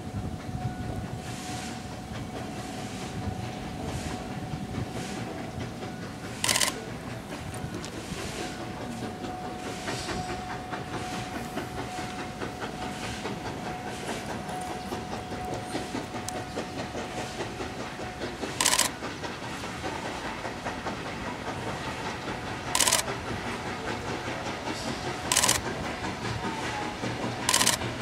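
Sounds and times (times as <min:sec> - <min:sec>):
loud steam hisses: 0:00.0 - 0:28.0
steam locomotive rumble and hiss: 0:00.0 - 0:28.0.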